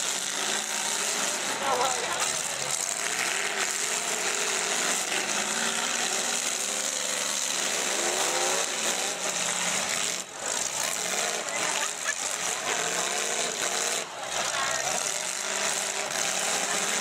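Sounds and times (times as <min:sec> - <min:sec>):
car engines running: 0:00.0 - 0:17.0
engine revving up: 0:00.0 - 0:17.0.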